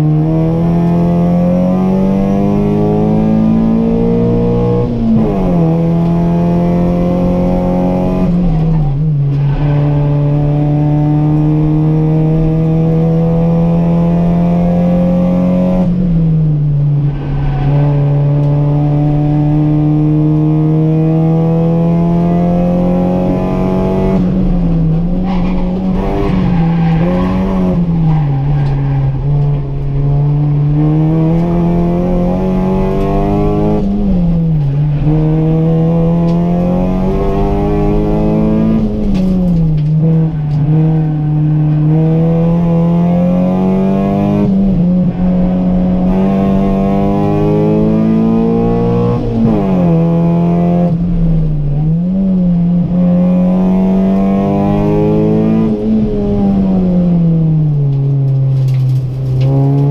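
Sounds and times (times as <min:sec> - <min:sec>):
car engine revving hard: 0:00.0 - 0:09.0, 0:09.7 - 0:15.9, 0:17.7 - 0:29.4, 0:30.0 - 0:57.1
road and wind noise: 0:00.0 - 0:59.9.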